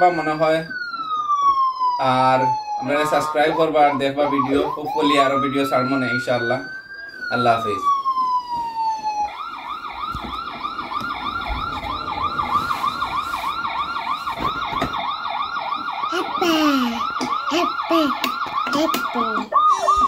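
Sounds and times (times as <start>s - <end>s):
electronic police siren: 0.0s - 20.0s.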